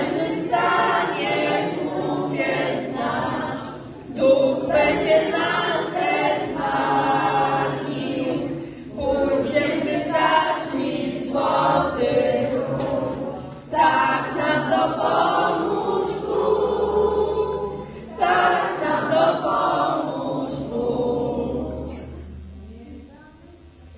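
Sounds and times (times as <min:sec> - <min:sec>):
group of voices singing: 0:00.0 - 0:22.4.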